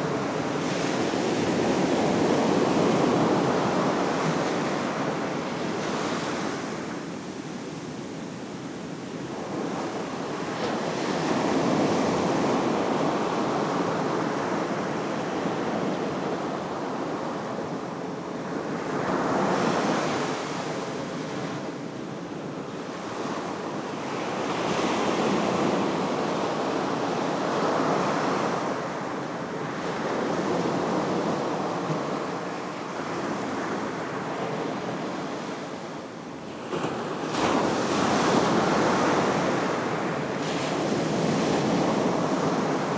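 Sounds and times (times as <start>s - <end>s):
surf washing up a beach: 0.0s - 42.9s.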